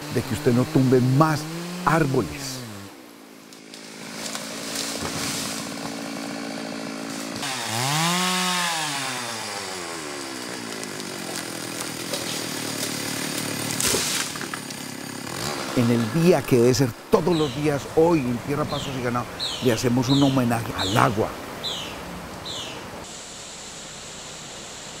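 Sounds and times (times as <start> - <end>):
chainsaw revving: 0.0 - 21.3.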